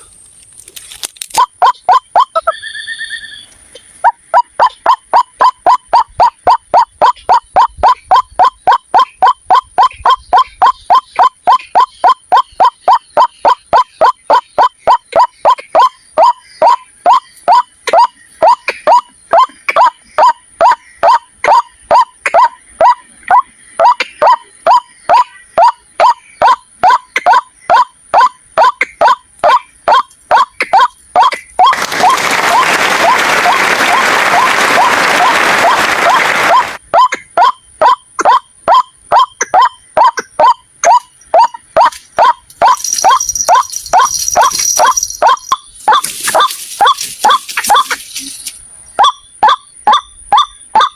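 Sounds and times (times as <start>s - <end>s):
waterhen calling: 1.4s - 3.3s, 4.0s - 50.9s.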